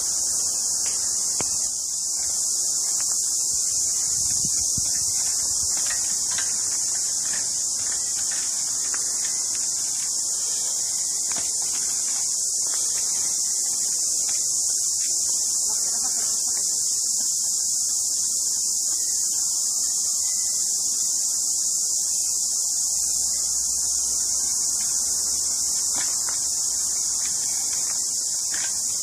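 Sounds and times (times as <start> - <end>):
insect chorus: 0.0 - 29.0.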